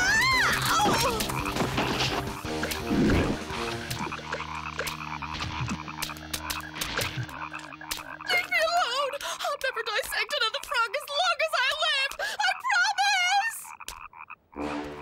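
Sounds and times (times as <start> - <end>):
frogs croaking chorus: 0.1 - 15.0.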